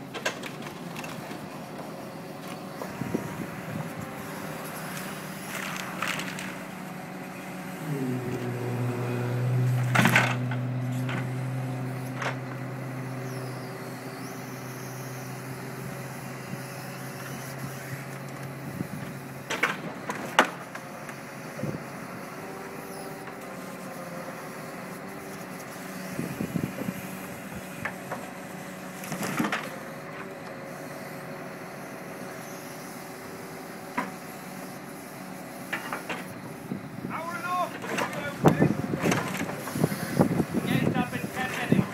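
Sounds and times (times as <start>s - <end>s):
truck engine and hydraulic pump: 0.0s - 41.9s.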